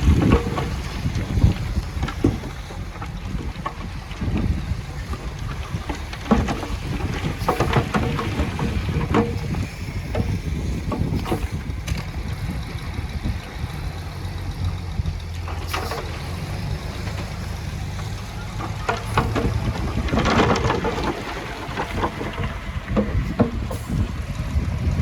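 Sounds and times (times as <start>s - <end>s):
metal clanks and knocks: 0.0s - 12.3s, 14.7s - 24.3s
diesel engine rumbling: 0.0s - 25.0s.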